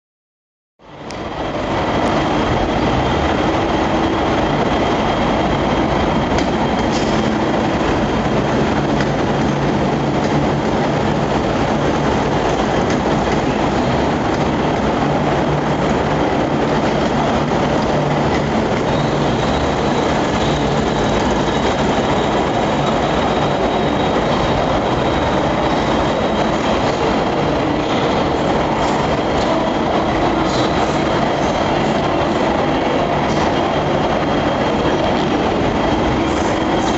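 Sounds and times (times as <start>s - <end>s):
trains at station: 0.8s - 36.9s.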